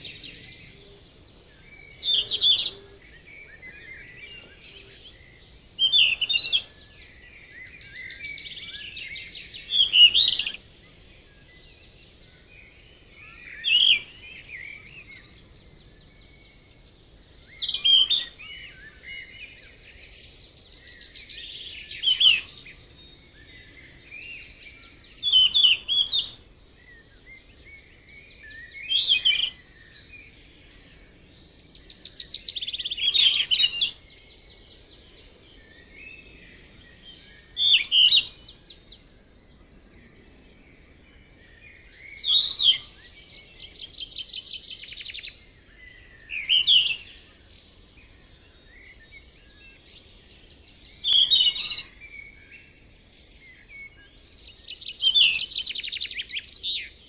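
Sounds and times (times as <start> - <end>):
faint high bird chirping: 0.0 - 57.0.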